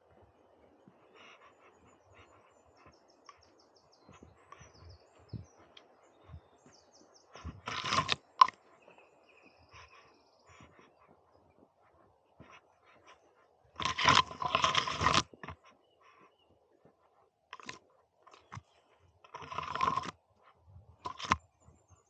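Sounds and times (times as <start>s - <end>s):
footsteps on a trail: 0.0s - 20.2s
rustling crunch: 0.0s - 21.8s
birds chirping: 0.0s - 22.0s.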